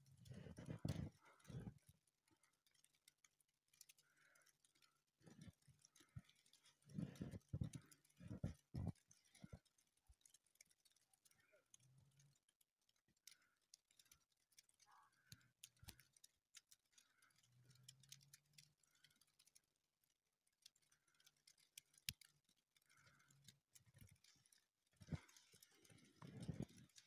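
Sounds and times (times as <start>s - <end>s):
faint ticks and crackles: 0.0s - 27.0s.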